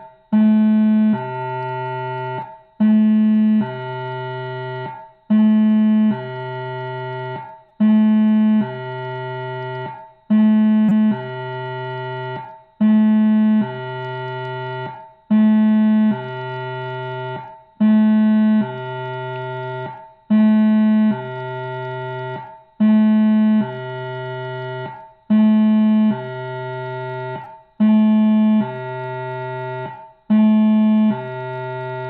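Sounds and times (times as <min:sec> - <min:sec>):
two-note siren from radio speaker: 0:00.0 - 0:32.0.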